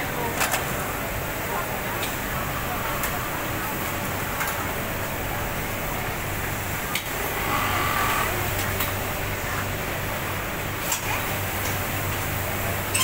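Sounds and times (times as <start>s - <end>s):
fans running: 0.0s - 13.0s
industrial sewing machines: 0.0s - 13.0s.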